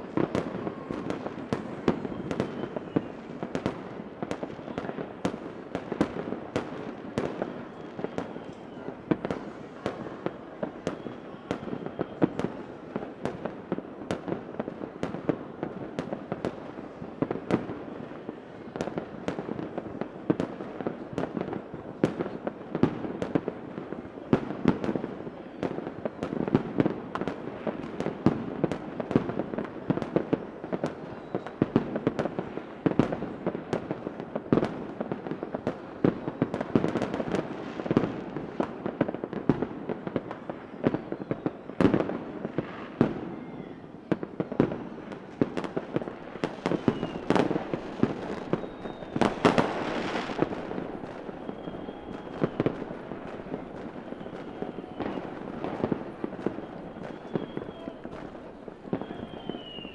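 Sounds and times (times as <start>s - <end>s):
fireworks whistling: 0.0s - 22.4s, 23.9s - 33.8s, 34.5s - 59.9s
fireworks bursting: 0.0s - 59.9s.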